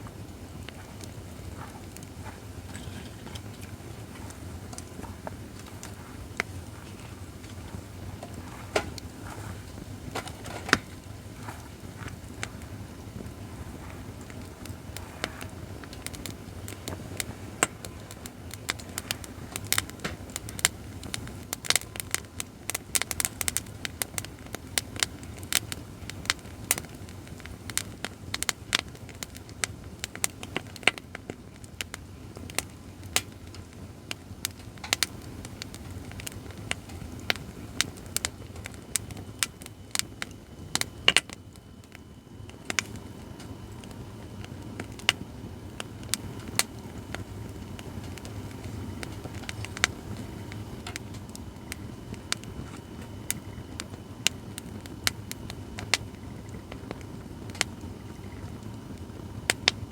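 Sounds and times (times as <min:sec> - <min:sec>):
firewood crackling and popping: 0:00.0 - 0:59.9
low steady rumble: 0:00.0 - 0:59.9.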